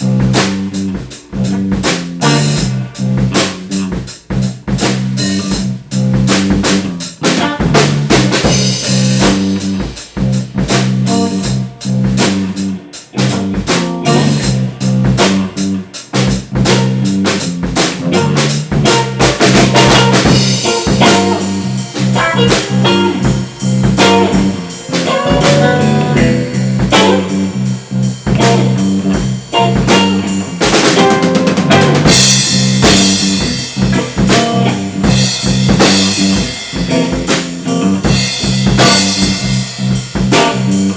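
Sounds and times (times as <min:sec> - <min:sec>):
drum kit beat: 0:00.0 - 0:40.9
rock band playing: 0:00.0 - 0:40.9.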